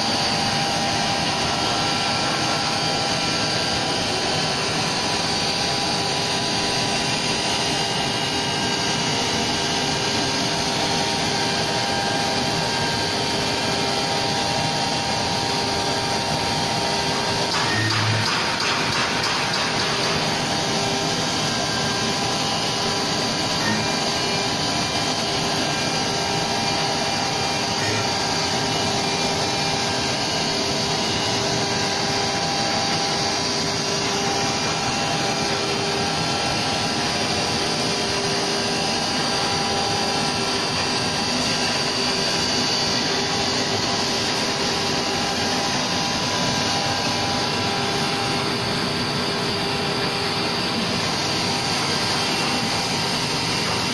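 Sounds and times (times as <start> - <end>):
wood router machinery whirring: 0.0 - 53.9.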